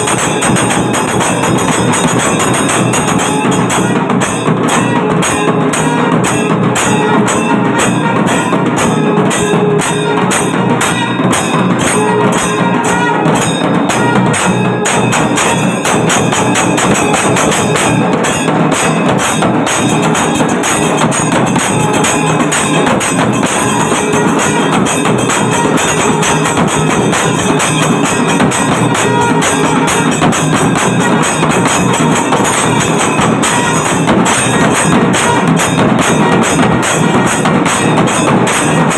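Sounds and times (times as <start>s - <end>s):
drums beating: 0.0s - 38.9s
small cymbals clashing: 0.0s - 38.9s.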